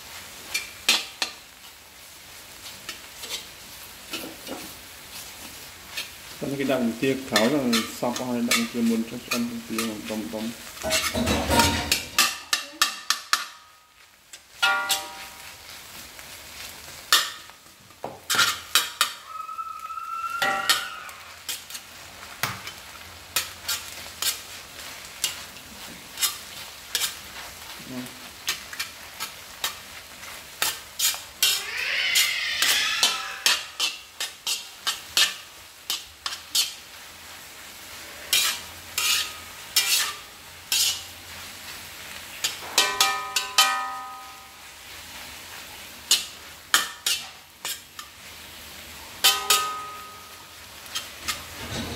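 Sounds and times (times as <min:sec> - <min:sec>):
food sizzling in a pan: 0:00.0 - 0:51.9
spatula scraping a pan: 0:00.1 - 0:51.9.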